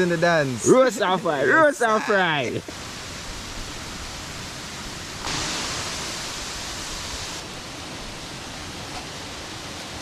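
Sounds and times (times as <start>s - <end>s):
waterfall rushing water: 0.0s - 10.0s.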